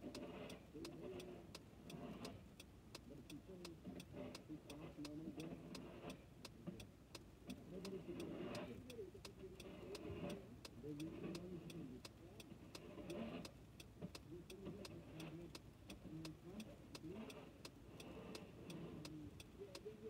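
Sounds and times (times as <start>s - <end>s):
car indicator ticking: 0.0s - 20.0s
faint muffled voices: 0.4s - 2.4s, 3.0s - 6.9s, 7.5s - 20.0s.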